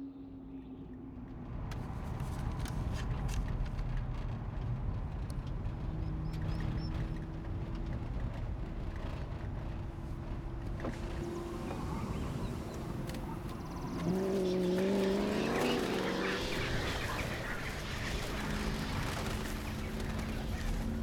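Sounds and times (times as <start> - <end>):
car engine running: 1.8 - 21.0.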